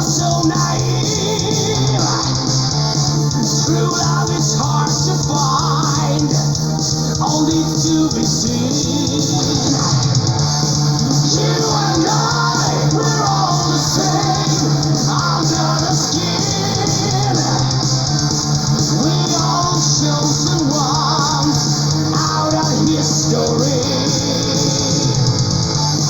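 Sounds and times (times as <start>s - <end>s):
electric guitar: 0.0s - 26.0s
person singing: 0.0s - 26.0s.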